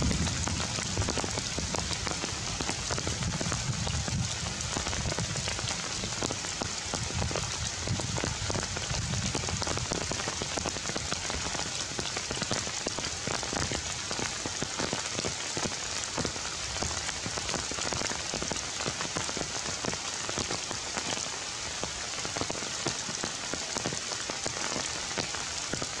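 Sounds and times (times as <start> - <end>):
rain falling on leaves: 0.0 - 26.0.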